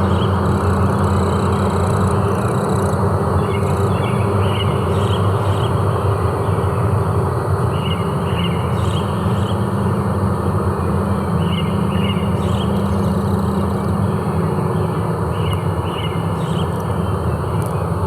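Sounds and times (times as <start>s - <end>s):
constant rushing noise: 0.0s - 18.0s.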